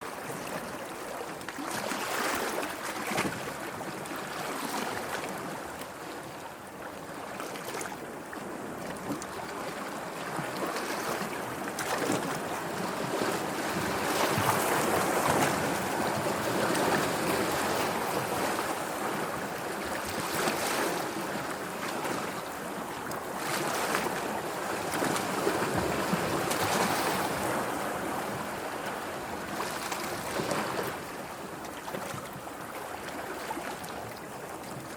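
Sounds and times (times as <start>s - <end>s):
wind: 0.0s - 34.9s.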